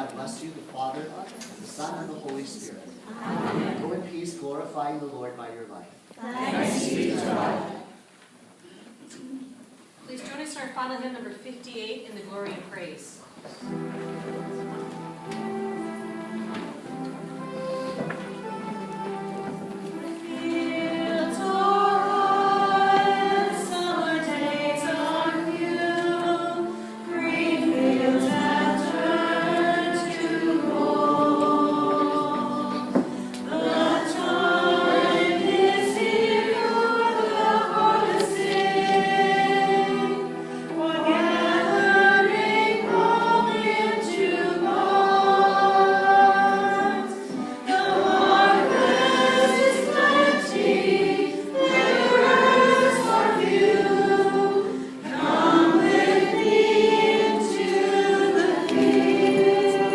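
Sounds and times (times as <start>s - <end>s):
church choir singing a hymn: 3.0s - 4.4s, 6.2s - 8.0s, 13.6s - 59.9s.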